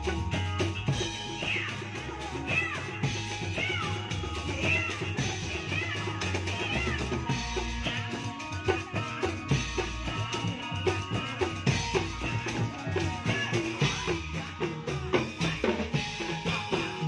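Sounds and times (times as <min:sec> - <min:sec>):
drums beating: 0:00.0 - 0:17.0.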